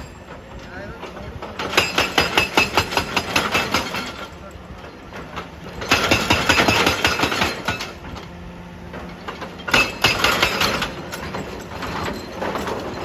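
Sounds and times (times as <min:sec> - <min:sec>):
excavator running: 0:00.0 - 0:13.0.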